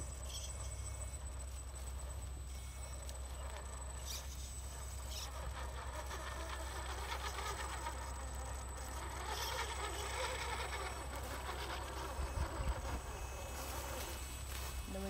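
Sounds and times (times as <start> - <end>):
toy truck motor whirring: 0.0 - 14.8
small ticks from tyres and gears: 0.0 - 15.0.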